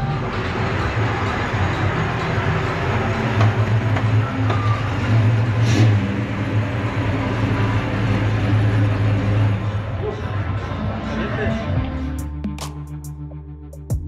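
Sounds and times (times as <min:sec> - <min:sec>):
car engine running low: 0:00.0 - 0:12.0.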